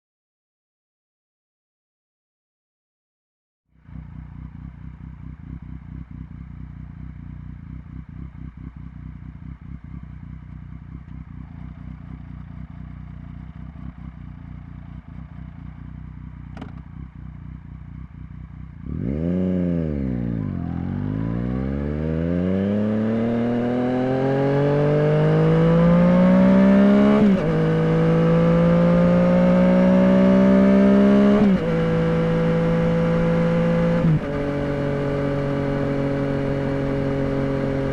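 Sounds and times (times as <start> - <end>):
motorcycle engine: 3.8 - 37.9.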